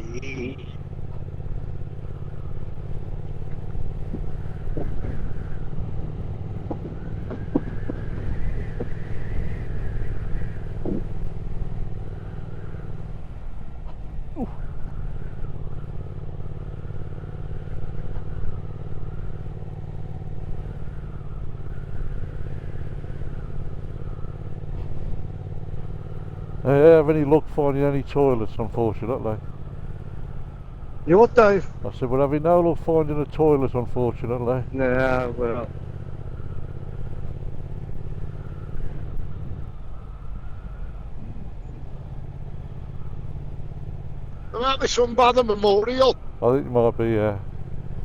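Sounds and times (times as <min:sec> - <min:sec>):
motorcycle engine cruising: 0:00.0 - 0:48.0.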